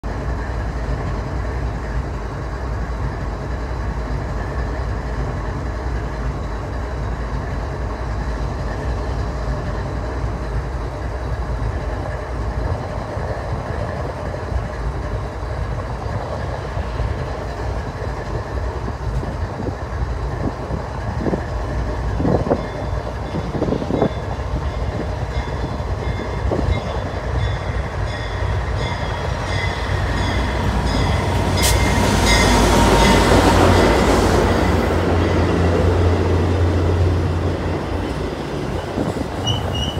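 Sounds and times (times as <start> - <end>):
diesel train rumbling: 0.0 - 39.9.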